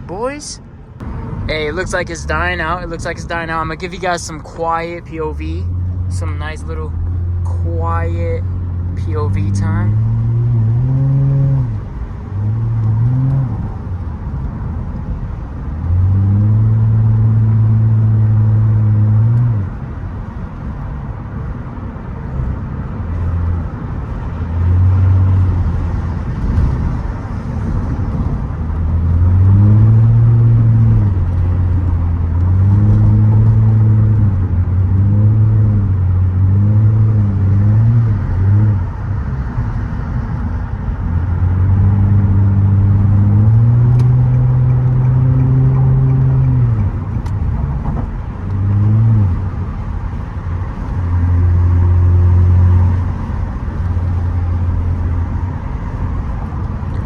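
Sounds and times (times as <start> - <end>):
car exhaust revving: 0.0 - 20.8, 22.1 - 39.6, 40.5 - 57.0.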